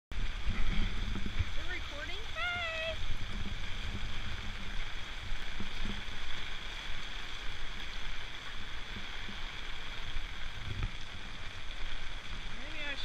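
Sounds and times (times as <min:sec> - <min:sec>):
heavy rain pouring: 0:00.1 - 0:13.0.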